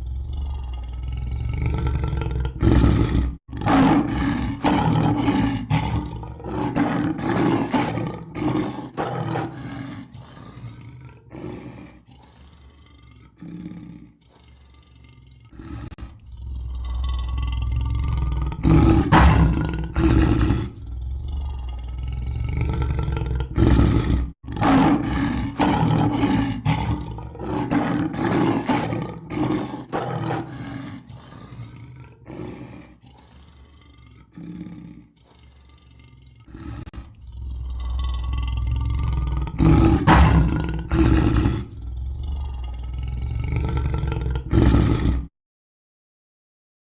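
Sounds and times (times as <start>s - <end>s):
lion roaring and growling: 0.0s - 45.3s.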